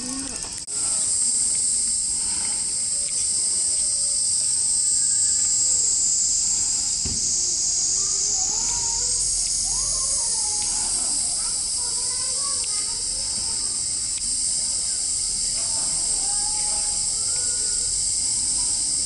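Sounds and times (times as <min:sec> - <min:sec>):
insects shrilling: 0:00.0 - 0:19.0.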